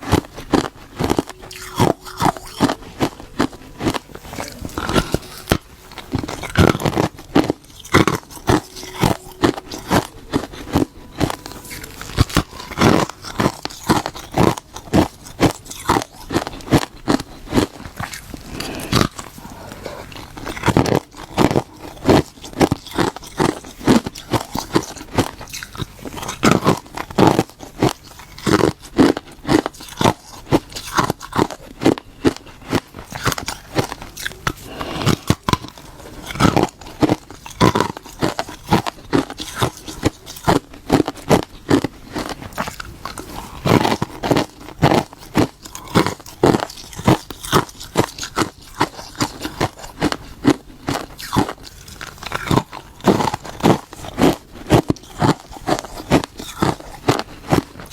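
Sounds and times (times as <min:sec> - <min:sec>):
person crunching ice: 0:00.0 - 0:57.9.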